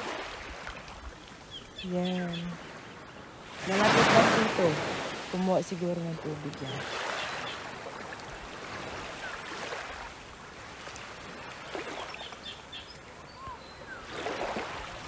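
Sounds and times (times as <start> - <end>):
small waves washing onto shore: 0.0 - 15.0.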